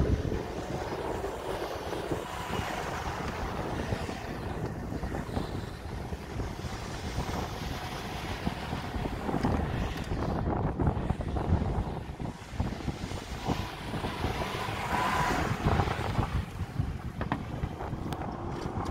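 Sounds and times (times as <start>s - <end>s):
engine running hard: 0.0s - 18.9s
wheels spinning through sand: 0.0s - 18.9s
wind on microphone: 0.0s - 18.9s.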